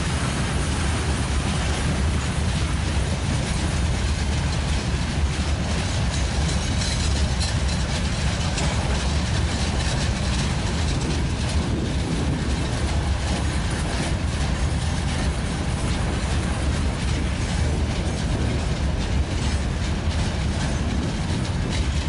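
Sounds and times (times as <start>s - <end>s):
freight wagons rolling on rails: 0.0s - 22.0s.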